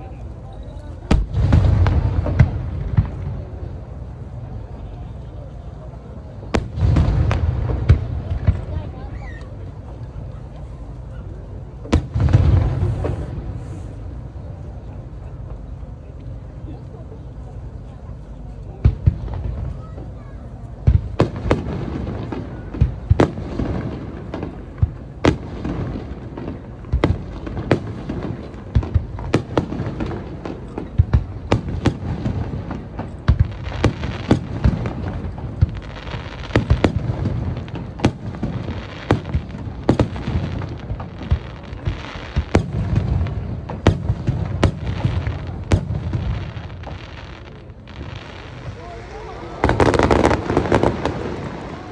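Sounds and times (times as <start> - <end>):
fireworks bursting: 1.0 - 4.8, 6.0 - 10.0, 11.4 - 15.6, 18.8 - 51.9.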